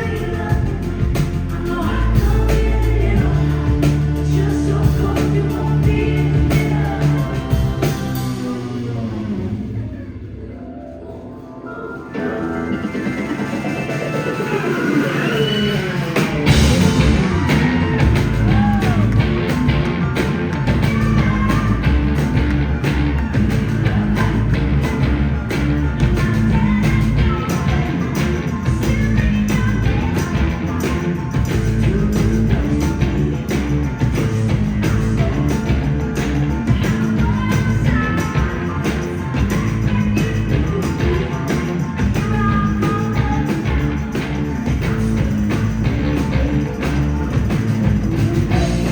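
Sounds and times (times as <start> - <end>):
person singing: 0.0 - 9.1, 11.1 - 48.9
drum kit beat: 0.0 - 9.3, 12.2 - 48.9
rock band playing live: 0.0 - 48.9.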